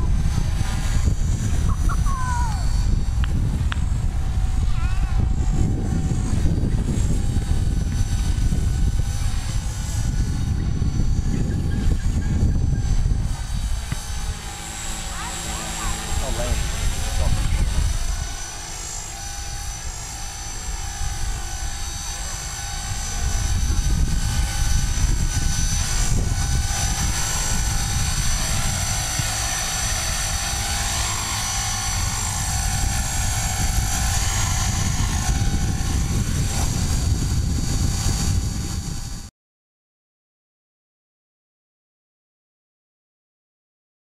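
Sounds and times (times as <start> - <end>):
rc helicopter motor whine: 0.0 - 39.3.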